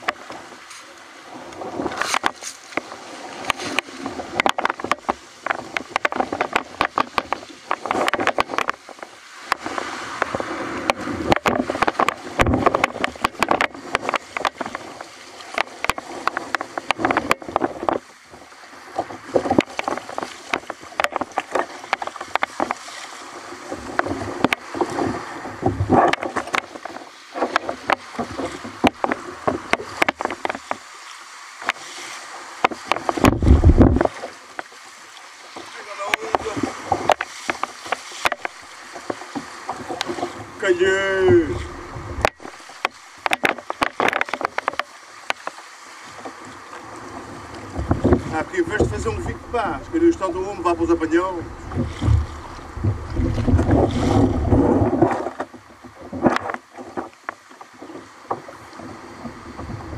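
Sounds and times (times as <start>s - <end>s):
sharp knocks and clicks: 0.0s - 0.3s, 1.9s - 18.1s, 18.9s - 22.8s, 23.7s - 30.8s, 31.6s - 31.8s, 32.6s - 34.8s, 35.6s - 40.5s, 41.2s - 45.6s, 47.5s - 58.6s
water splashing against hull: 0.0s - 59.9s.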